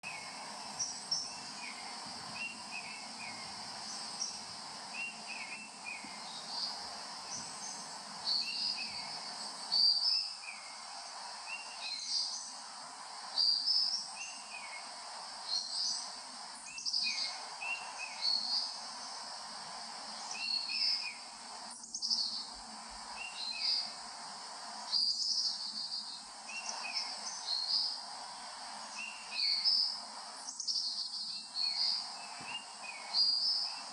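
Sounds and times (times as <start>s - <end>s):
birds chirping: 0.0s - 33.9s
insect drone: 0.0s - 33.9s.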